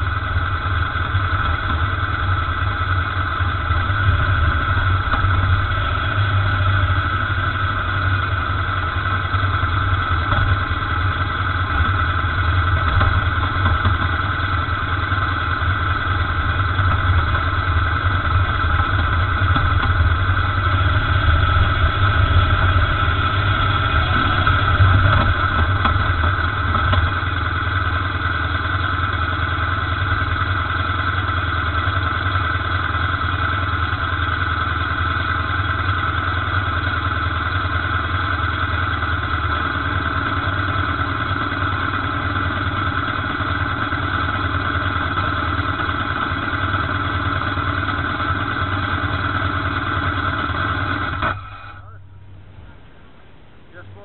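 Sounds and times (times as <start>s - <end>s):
motorcycle engine idling: 0.0s - 54.0s
second motorcycle engine: 0.0s - 54.0s.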